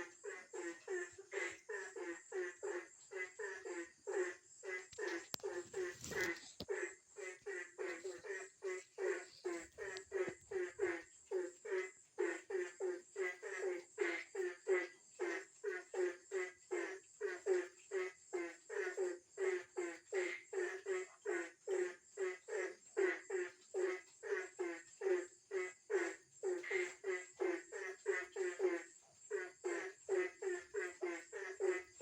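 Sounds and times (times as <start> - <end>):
frog croaking: 0.0 - 32.0.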